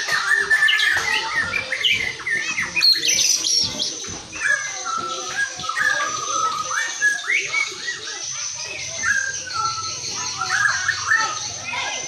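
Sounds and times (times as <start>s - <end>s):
songbird singing whistles: 0.0s - 12.0s.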